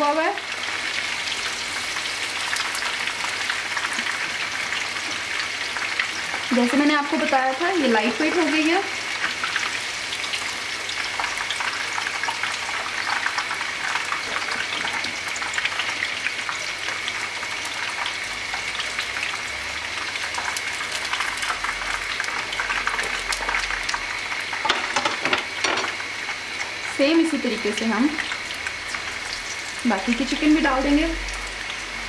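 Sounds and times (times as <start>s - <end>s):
hot oil sizzling and crackling: 0.0s - 32.0s.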